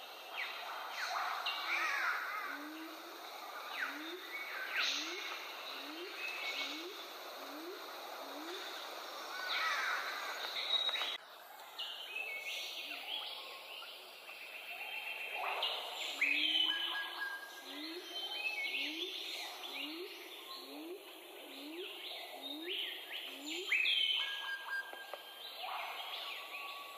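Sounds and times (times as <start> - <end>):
overlapping bird calls: 0.0 - 11.2, 15.3 - 26.9.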